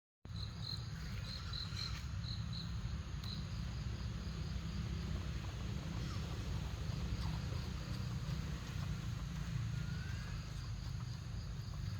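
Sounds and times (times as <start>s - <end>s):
insect chirping: 0.3s - 11.9s
steady low rumble: 0.4s - 11.9s.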